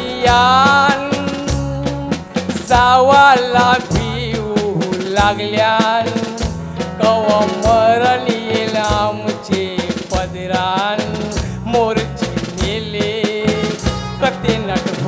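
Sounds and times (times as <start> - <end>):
drums and percussion: 0.0 - 15.0
man singing into microphone: 0.0 - 15.0.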